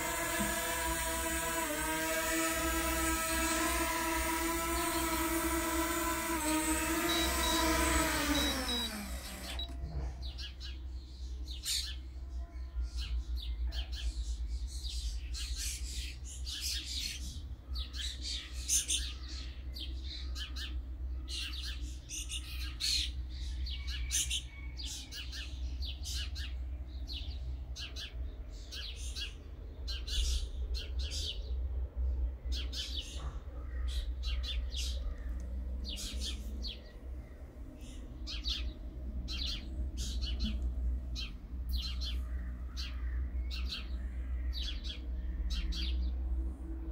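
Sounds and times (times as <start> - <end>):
small birds chirping: 0.0 - 31.6, 32.4 - 46.2.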